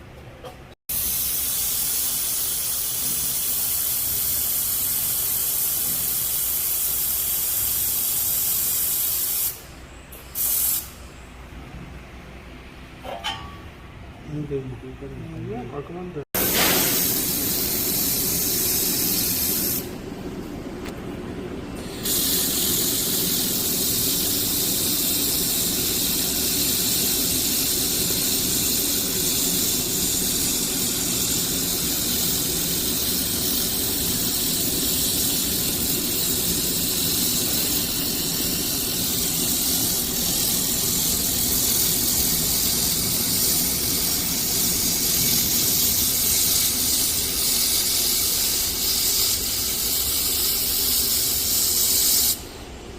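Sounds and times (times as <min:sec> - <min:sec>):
laser welding machine hiss: 0:00.9 - 0:11.3, 0:16.3 - 0:20.0, 0:21.7 - 0:52.8.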